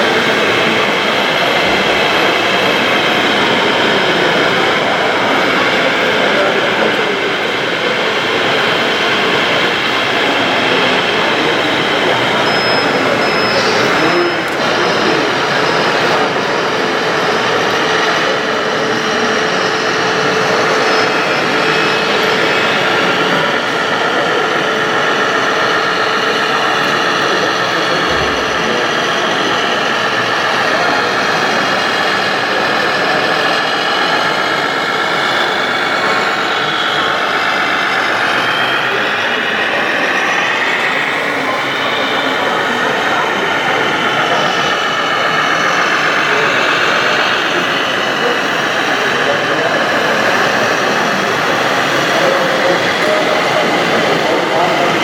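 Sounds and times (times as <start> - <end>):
faint high whine: 0.0 - 55.0
model machinery running: 0.0 - 55.0.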